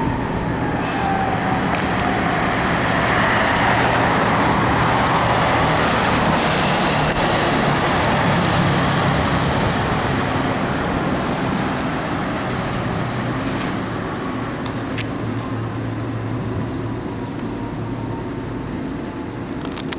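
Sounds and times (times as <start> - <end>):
heavy vehicle engine: 0.0 - 19.9
tyre and road noise: 0.0 - 19.9.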